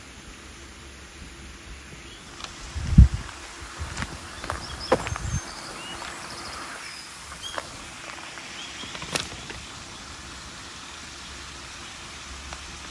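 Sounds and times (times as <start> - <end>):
steady outdoor hiss: 0.0 - 12.9.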